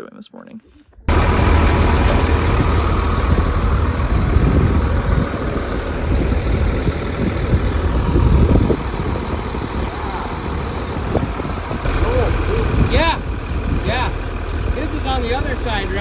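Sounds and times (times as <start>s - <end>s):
large engine idling: 1.1s - 16.0s.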